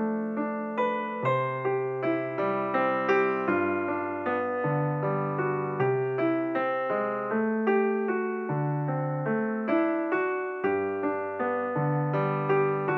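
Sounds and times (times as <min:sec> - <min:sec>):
piano chords: 0:00.0 - 0:12.9.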